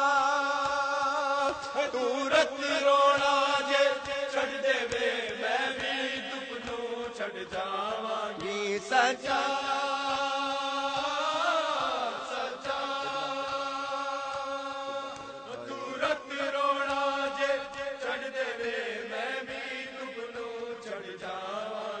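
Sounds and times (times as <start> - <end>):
man chanting: 0.0 - 18.7.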